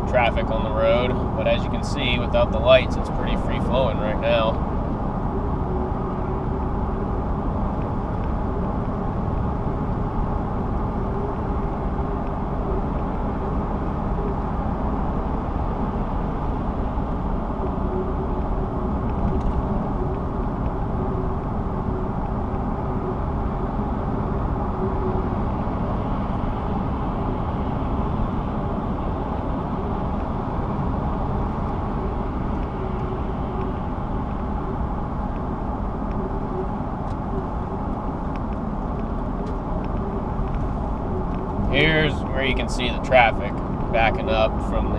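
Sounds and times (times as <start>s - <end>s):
car interior road and engine noise: 0.0s - 44.9s.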